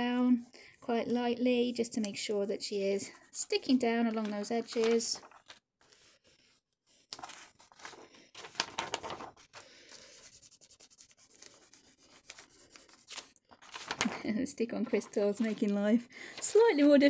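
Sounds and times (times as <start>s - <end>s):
paper rustling under rubbing hands: 0.0s - 17.0s.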